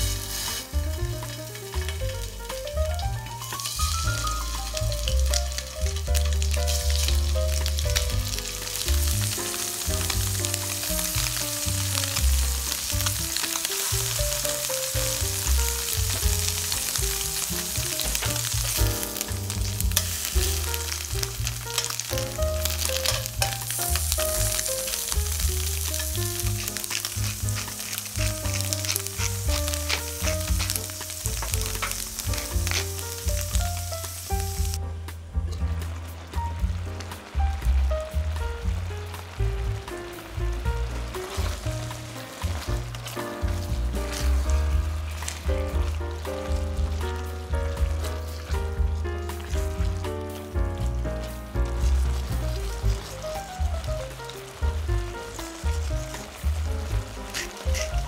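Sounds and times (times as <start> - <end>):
background music with bass line: 0.0 - 58.0
tofu sizzling in frying pan: 0.0 - 58.0.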